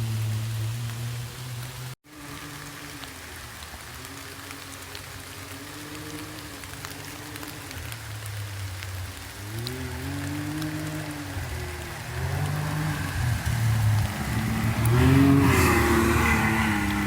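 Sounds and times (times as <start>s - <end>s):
steady hiss: 0.0s - 17.0s
utv engine running: 0.0s - 17.0s
small ticks: 0.8s - 17.0s.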